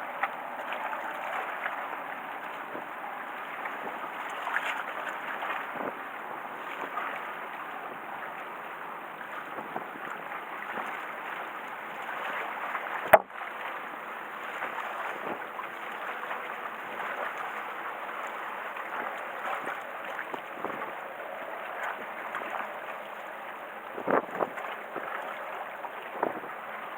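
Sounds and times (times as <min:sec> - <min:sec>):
waves lapping against concrete: 0:00.0 - 0:26.9.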